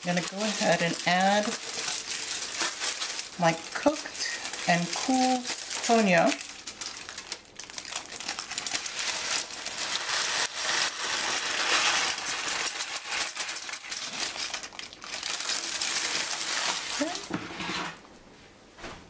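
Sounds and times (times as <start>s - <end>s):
aluminium foil crinkling: 0.0s - 17.3s.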